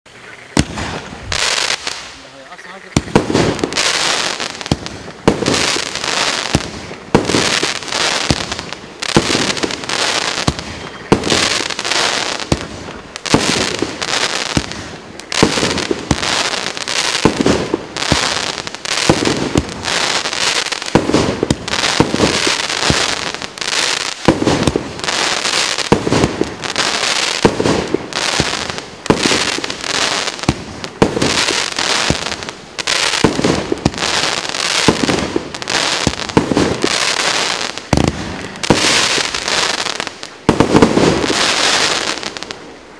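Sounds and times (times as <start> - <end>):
crackling hiss of firework burst: 0.2 - 42.9
firework shots firing: 0.5 - 2.2, 2.9 - 42.6.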